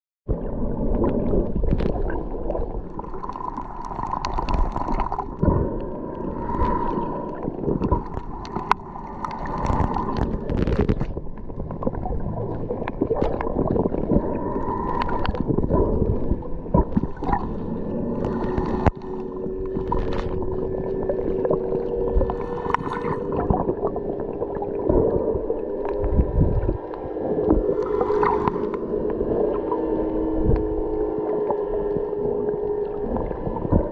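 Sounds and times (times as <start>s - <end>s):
underwater motor hum: 0.3s - 33.9s
water sloshing underwater: 0.3s - 33.9s.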